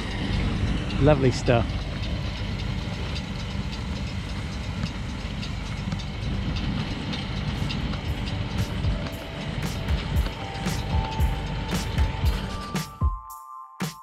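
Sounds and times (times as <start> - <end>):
tractor engine under load: 0.0 - 13.0
baler clicks and knocks: 0.3 - 13.0.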